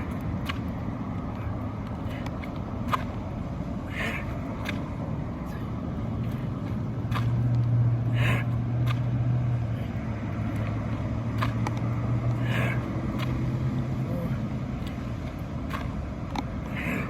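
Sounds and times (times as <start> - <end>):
low engine hum: 0.0 - 17.0
outdoor background noise: 0.0 - 17.0.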